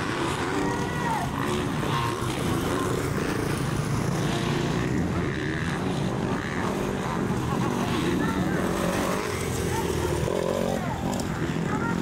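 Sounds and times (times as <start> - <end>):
motocross bike engines racing: 0.0 - 12.0.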